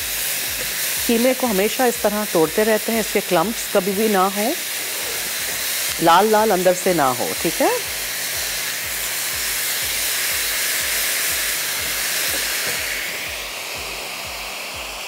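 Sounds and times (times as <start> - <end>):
mince and onions sizzling in wok: 0.0 - 15.0.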